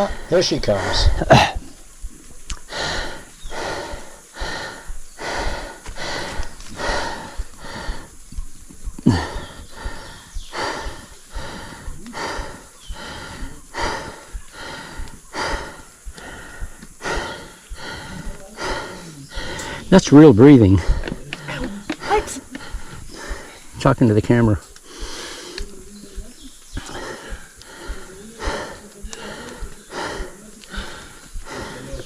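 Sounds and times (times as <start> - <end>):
person panting: 0.0 - 1.6, 2.6 - 19.9, 20.6 - 23.8, 24.4 - 32.0.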